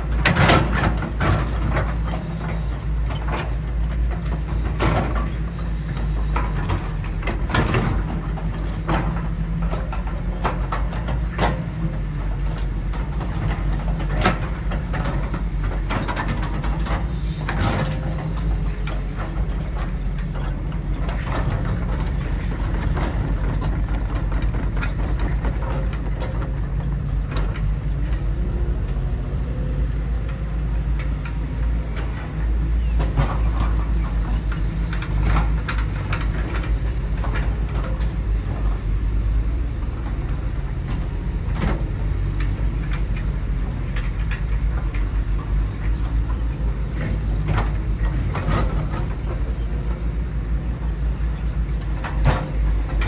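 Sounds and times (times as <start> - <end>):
metal clanks and knocks: 0.0 - 38.9, 39.8 - 53.0
construction machine engine drone: 0.0 - 53.0.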